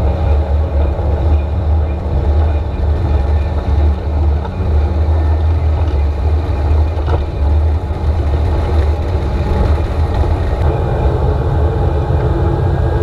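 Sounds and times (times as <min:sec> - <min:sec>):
churning wake rushing: 0:00.0 - 0:13.0
motorboat engine rumble: 0:00.0 - 0:13.0.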